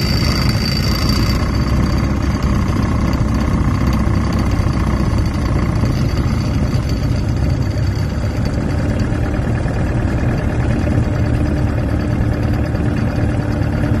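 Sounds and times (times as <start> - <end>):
aircraft engine running at low power: 0.0 - 14.0.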